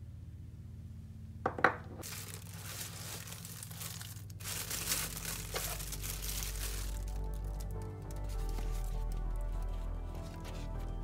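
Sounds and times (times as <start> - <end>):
plastic bag crinkling: 2.0 - 11.0.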